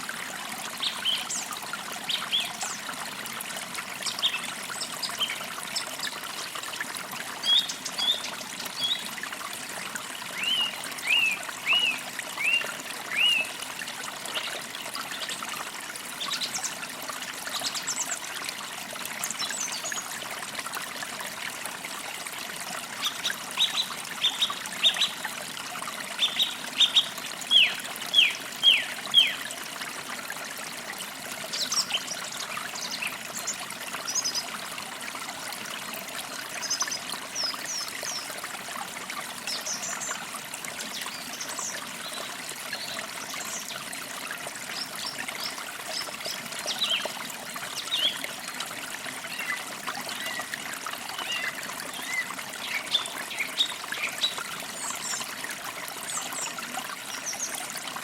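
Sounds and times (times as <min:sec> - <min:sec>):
creek trickling: 0:00.0 - 0:58.0.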